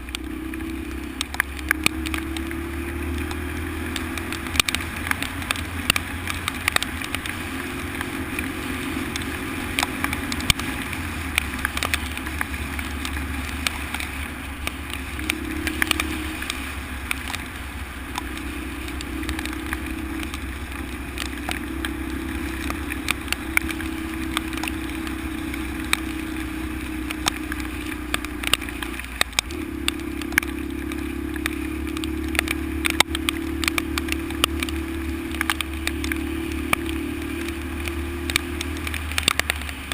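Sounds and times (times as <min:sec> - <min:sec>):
motorcycle engine running: 0:00.0 - 0:39.9
sharp clicks and knocks: 0:00.0 - 0:39.9.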